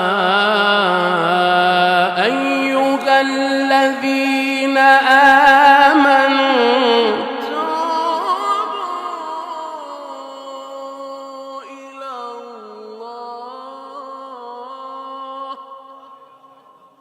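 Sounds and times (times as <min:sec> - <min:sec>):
man reciting a long melodic note: 0:00.0 - 0:17.0.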